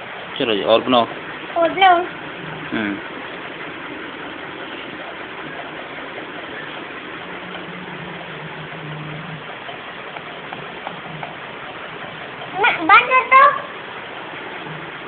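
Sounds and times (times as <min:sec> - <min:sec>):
low hum: 0:00.0 - 0:12.8
steady hiss: 0:00.0 - 0:15.0.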